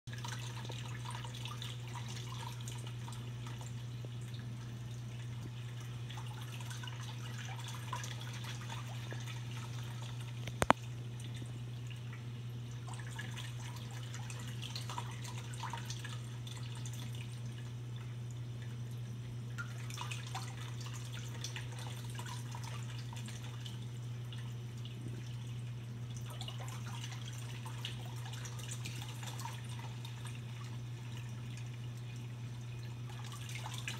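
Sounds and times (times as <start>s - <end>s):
low equipment hum: 0.1s - 33.9s
water trickling and dripping: 0.1s - 33.9s.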